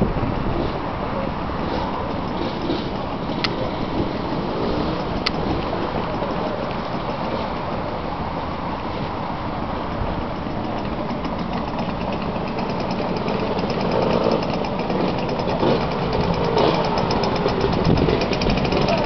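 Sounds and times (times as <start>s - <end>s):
motor scooter engines idling: 0.0s - 19.0s.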